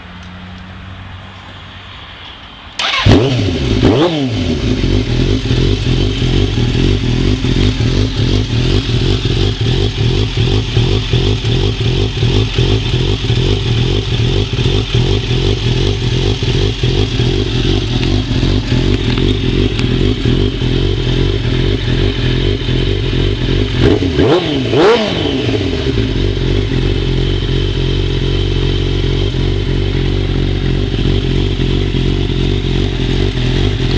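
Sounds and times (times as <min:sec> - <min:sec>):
motorcycle engine idling: 0:02.8 - 0:33.9
motorcycle engine revving: 0:02.8 - 0:33.9.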